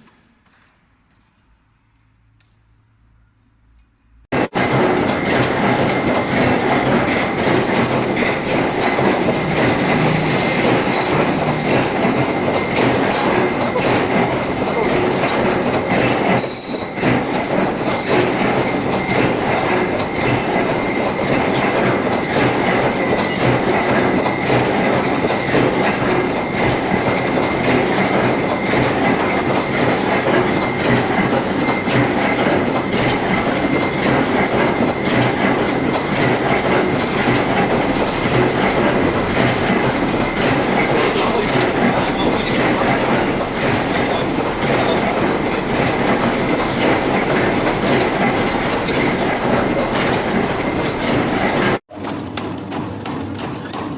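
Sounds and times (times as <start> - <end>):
factory machinery clatter: 4.3 - 53.9.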